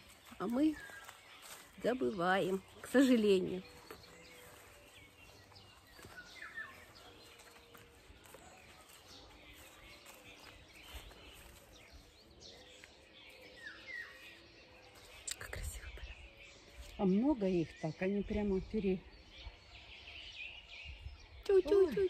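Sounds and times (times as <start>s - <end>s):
faint nightingale song: 0.0s - 22.0s.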